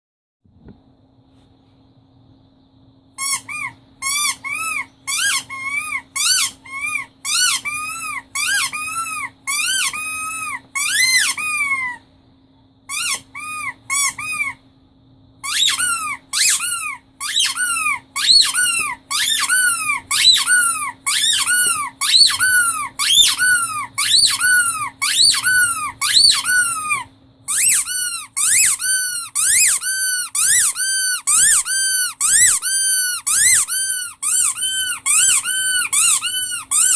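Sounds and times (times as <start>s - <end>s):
faint steady hum: 0.5s - 36.9s
rubber squeaky toy squeaking: 3.2s - 12.0s, 12.9s - 14.6s, 15.4s - 36.9s.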